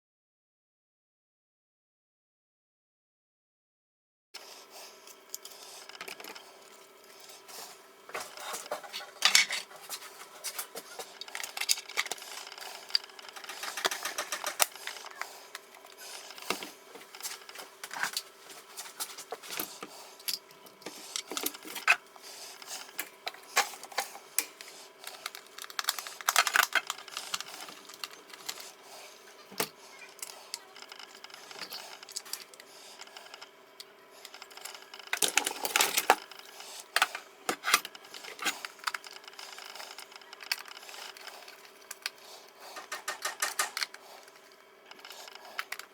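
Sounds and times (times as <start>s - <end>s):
steady hum: 4.4s - 45.9s.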